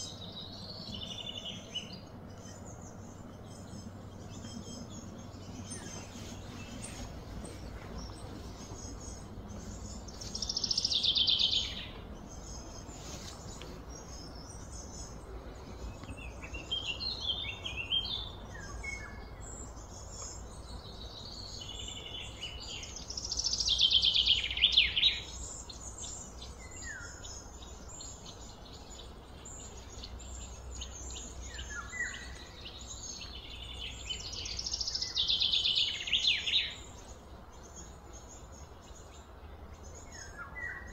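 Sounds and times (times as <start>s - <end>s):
soft bird chirps: 0.0s - 40.9s
songbird singing: 0.0s - 40.9s
steady low hum: 0.0s - 40.9s.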